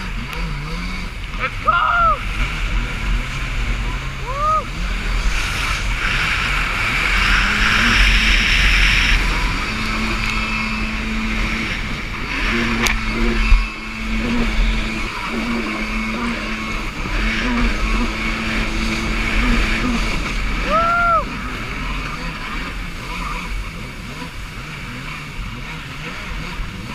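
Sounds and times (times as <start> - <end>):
jet ski engine running: 0.0 - 26.9
wind rumbling on microphone: 0.0 - 26.9.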